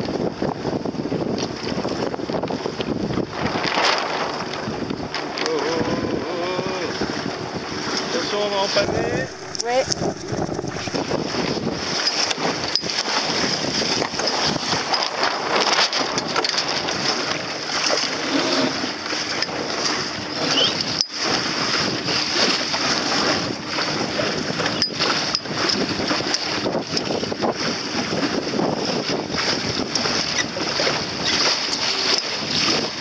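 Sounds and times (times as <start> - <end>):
wind buffeting microphone: 0.0 - 18.2, 18.8 - 33.0
water washing against hull: 0.0 - 33.0.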